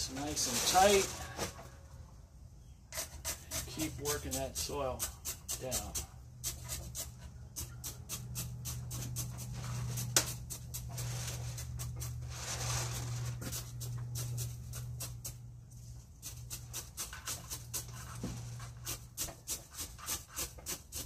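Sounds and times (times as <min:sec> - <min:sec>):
steady low hum: 0:00.0 - 0:21.0
chopstick scraping soil: 0:00.1 - 0:01.1, 0:02.9 - 0:21.0.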